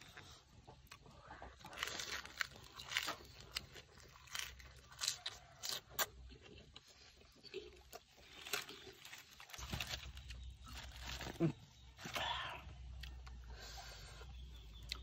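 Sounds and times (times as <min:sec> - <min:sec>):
chewing crisp lettuce: 0:00.0 - 0:12.3, 0:12.9 - 0:15.0.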